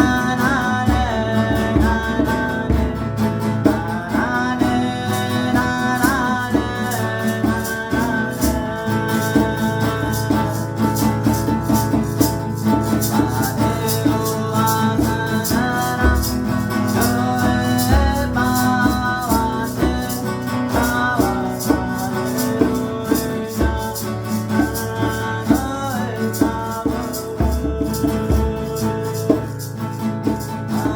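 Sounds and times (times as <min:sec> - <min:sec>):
hand rattle shaken: 0:00.0 - 0:30.9
plucked string instrument: 0:00.0 - 0:30.9.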